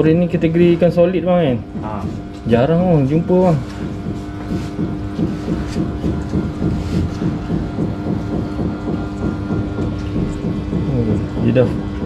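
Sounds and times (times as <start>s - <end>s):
constant low drone: 0.0s - 12.0s
water bubbling from air pump: 1.4s - 12.0s.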